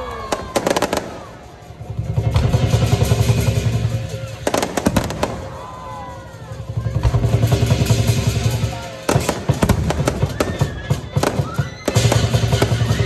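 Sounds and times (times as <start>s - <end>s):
firecrackers crackling: 0.0s - 13.0s
drum beating rapidly: 0.4s - 13.0s.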